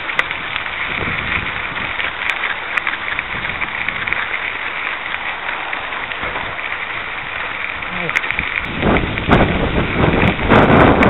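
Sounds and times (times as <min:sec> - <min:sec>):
bike tyres rolling on gravel: 0:00.0 - 0:11.0.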